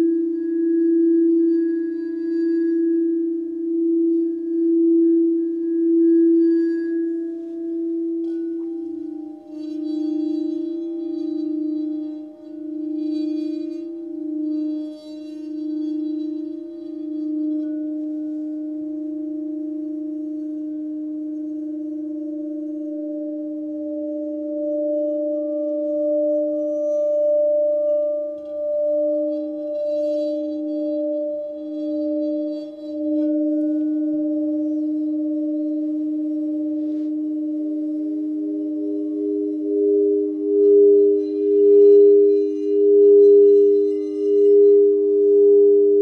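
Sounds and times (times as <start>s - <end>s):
faint high sparkles: 0.0s - 46.0s
sustained meditation tones: 0.0s - 46.0s.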